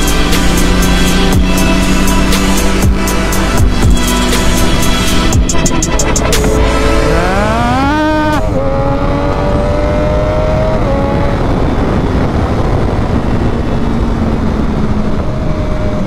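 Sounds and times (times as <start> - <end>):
motorcycle engine accelerating: 0.0 - 16.0
wind noise rushing: 0.0 - 16.0.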